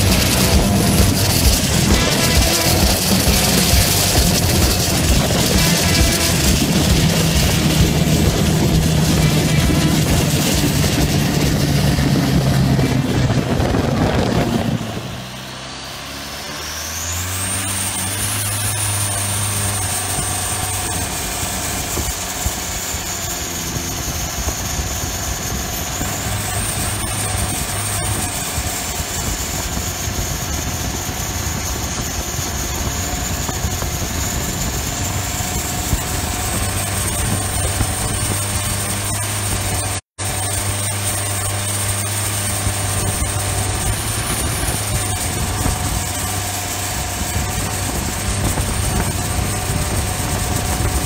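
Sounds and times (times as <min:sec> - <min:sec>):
boat diesel engine running: 0:00.0 - 0:51.0.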